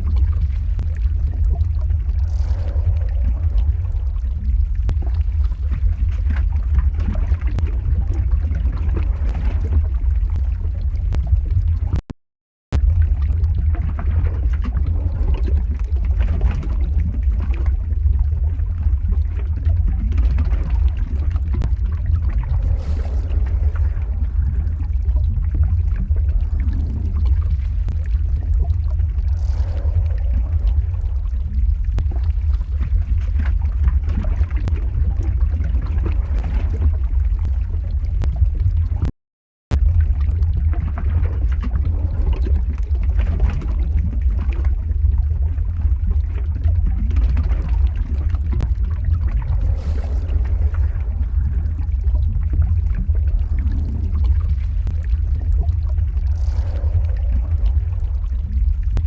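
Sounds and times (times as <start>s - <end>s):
scattered crackles: 0.0s - 12.1s, 12.7s - 39.1s, 39.7s - 59.0s
lava rumbling and bubbling: 0.0s - 59.0s.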